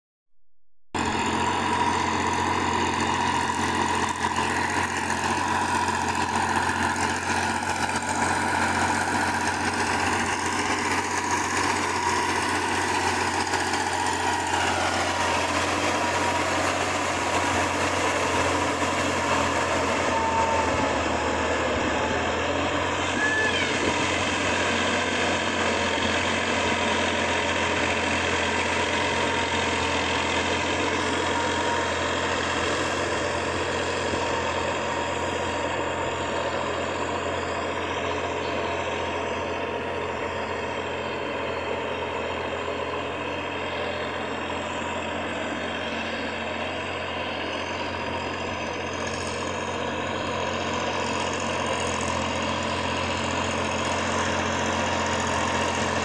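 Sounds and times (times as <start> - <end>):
tractor engine running under load: 0.9 - 56.0.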